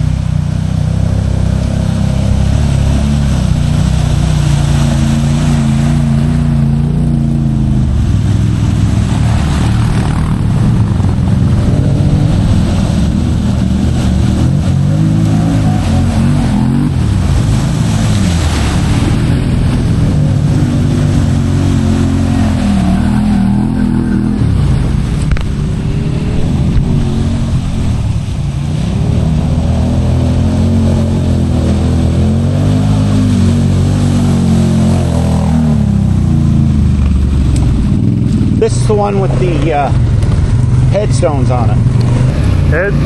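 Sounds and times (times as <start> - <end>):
atv engine revving: 0.0 - 43.0
rough noise: 0.0 - 43.0.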